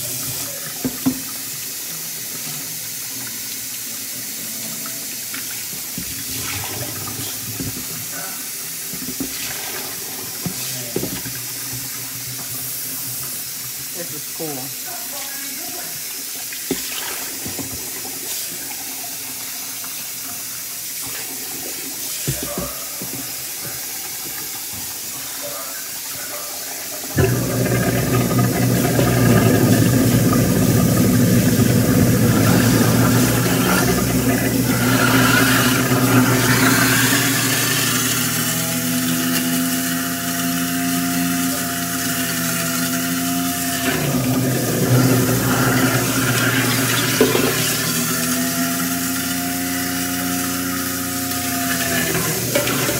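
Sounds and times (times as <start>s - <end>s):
juicer motor humming: 0.0s - 15.8s, 16.5s - 25.7s, 26.8s - 52.9s.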